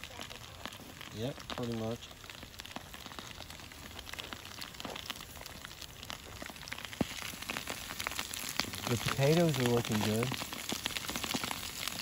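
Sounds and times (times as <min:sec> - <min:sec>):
charcoal crackling and popping: 0:00.0 - 0:12.0
food sizzling over charcoal: 0:00.0 - 0:12.0.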